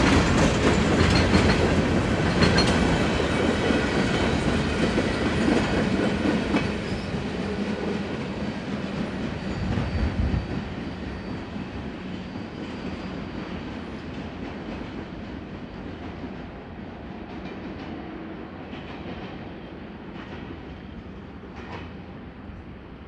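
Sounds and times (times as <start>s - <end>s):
freight train rolling on rails: 0.0s - 23.0s.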